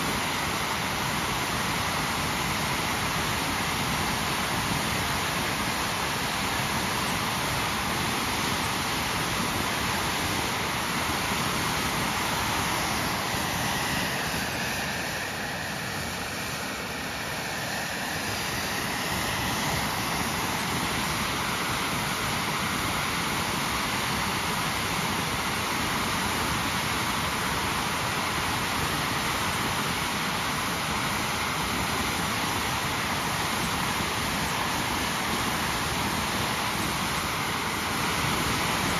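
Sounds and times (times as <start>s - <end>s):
jet engine running: 0.0s - 38.9s.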